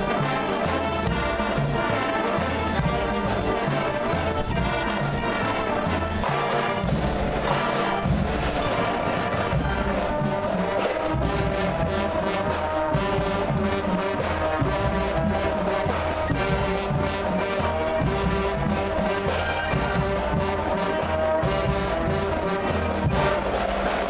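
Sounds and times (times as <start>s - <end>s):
drum hits: 0.0s - 24.0s
marching band brass chords: 0.0s - 24.0s.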